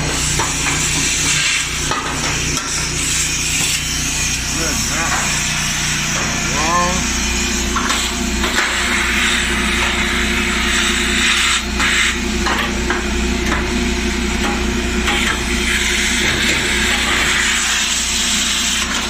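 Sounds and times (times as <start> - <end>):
shop vac sucking debris: 0.0 - 19.0.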